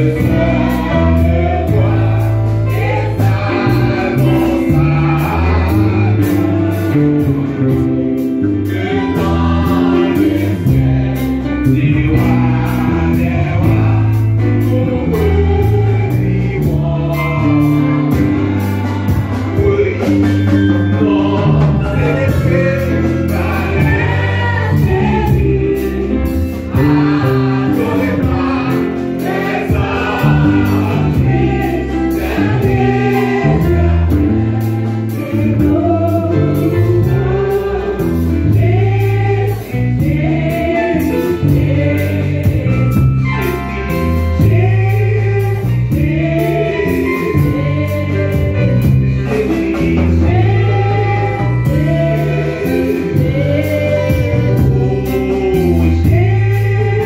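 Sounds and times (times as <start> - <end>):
electric bass guitar: 0.0 - 57.0
gospel worship music: 0.0 - 57.0
keyboard: 0.0 - 57.0
voices singing: 0.0 - 57.0.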